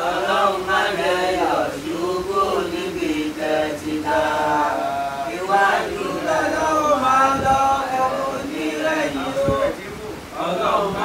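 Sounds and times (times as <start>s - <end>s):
man chanting a prayer: 0.4s - 11.0s.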